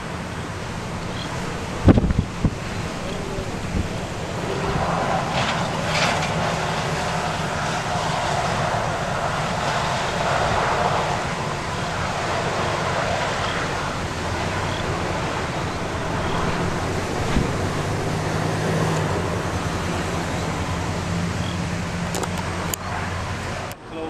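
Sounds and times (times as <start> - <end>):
wind noise on microphone: 0.0 - 23.8
low vehicle engine hum: 0.0 - 24.0.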